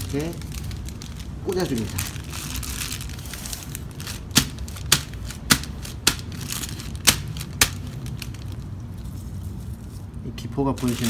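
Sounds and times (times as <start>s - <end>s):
foil seals popping: 0.0s - 10.1s, 10.7s - 11.0s.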